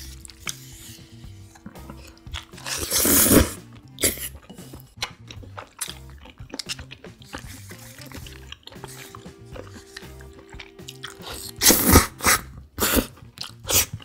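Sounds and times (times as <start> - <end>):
chewing: 0.0 - 14.0
soft background music: 0.0 - 14.0.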